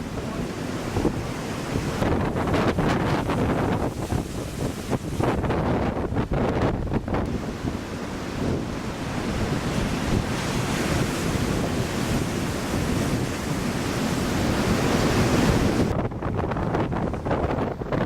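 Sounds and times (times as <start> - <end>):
storm waves breaking: 0.0 - 18.0
wind buffeting microphone: 0.0 - 18.0.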